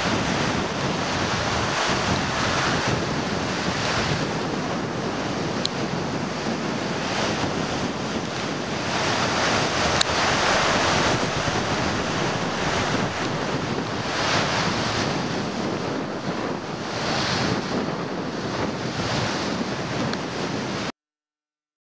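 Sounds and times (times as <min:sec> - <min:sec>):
steady rushing outdoor noise: 0:00.0 - 0:20.9.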